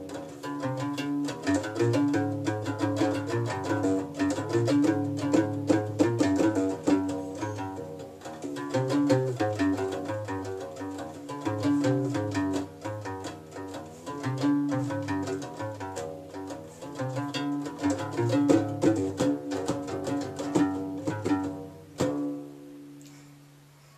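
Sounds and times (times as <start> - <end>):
plucked bass lute: 0.0 - 23.0.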